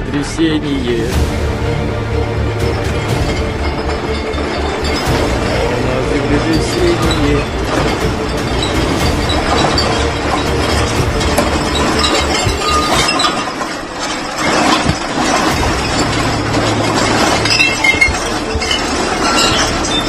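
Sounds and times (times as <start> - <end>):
low rumble: 0.0 - 20.0
glass and objects clinking and rattling: 1.1 - 20.0.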